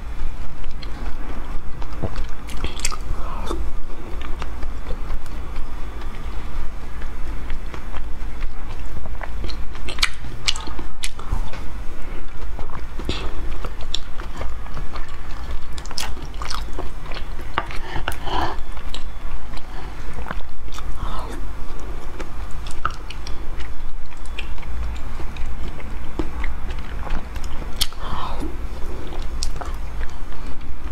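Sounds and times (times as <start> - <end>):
low steady hum: 0.0 - 30.9
wet sticky chewing: 0.2 - 30.9.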